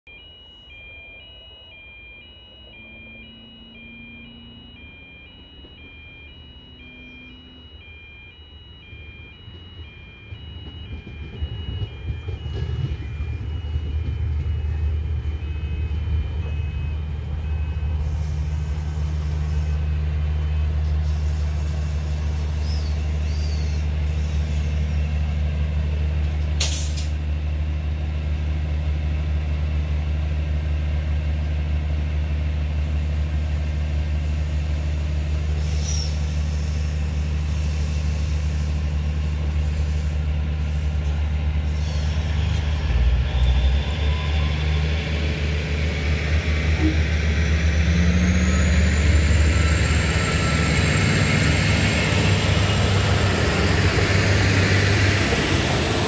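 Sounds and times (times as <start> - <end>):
two-tone warning beeps: 0.1 - 25.2, 35.6 - 56.0
diesel train engine drone: 0.1 - 56.0.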